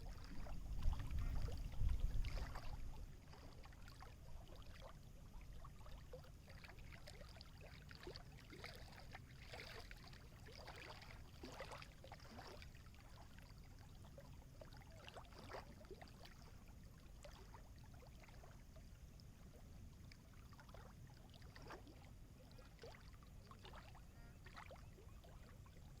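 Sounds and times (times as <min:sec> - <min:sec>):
small water waves lapping: 0:00.0 - 0:26.0.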